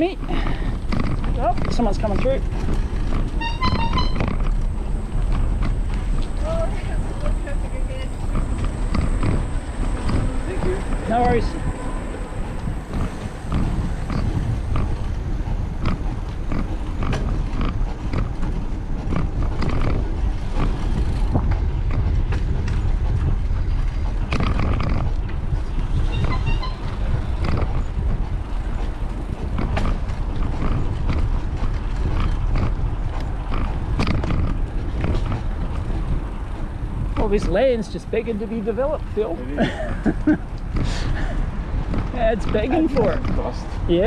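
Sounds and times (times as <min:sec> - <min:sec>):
bike rattling and knocking: 0:00.0 - 0:44.0
rumble of wind and tyres: 0:00.0 - 0:44.0.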